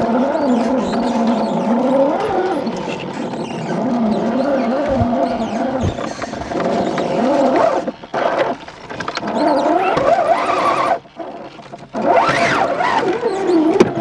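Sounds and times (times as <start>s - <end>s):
electric motor and gearbox whine: 0.0s - 14.0s.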